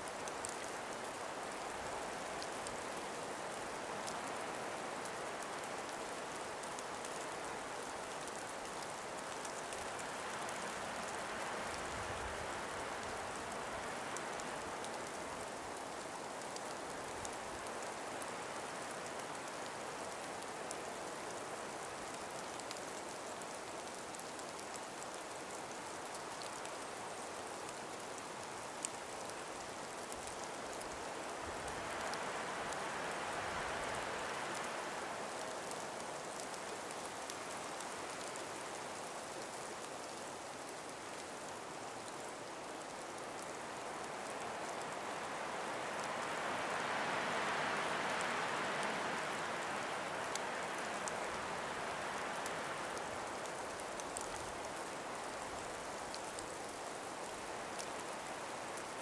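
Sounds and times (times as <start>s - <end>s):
breeze through trees: 0.0s - 59.0s.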